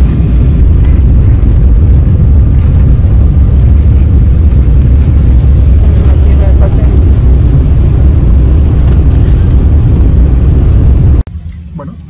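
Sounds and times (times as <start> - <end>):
jet cabin rumble: 0.0 - 12.0.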